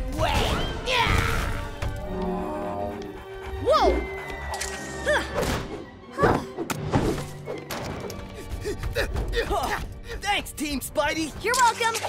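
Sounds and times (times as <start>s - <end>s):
orchestral action music: 0.0s - 12.0s.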